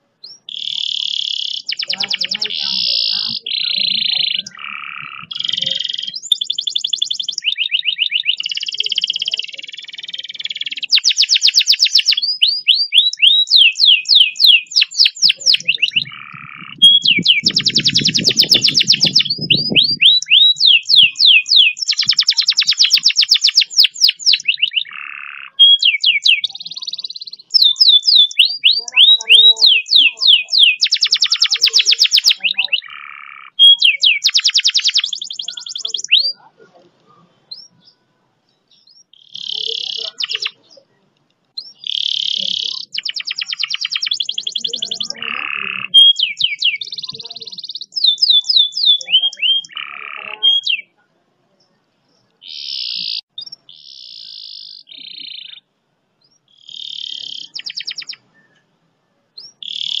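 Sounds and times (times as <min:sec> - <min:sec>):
canary singing trills: 0:00.0 - 1:00.0.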